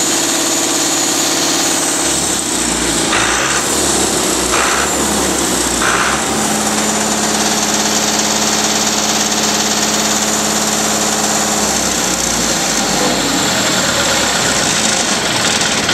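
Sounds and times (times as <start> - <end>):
diesel engine running: 0.0 - 15.9.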